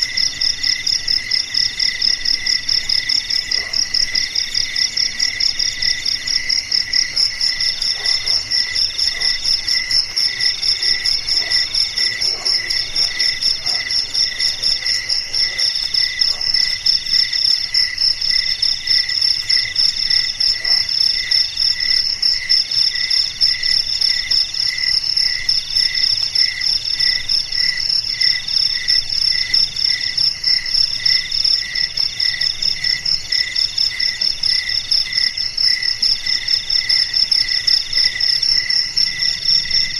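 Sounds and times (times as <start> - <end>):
low cricket chirp: 0.0 - 39.9.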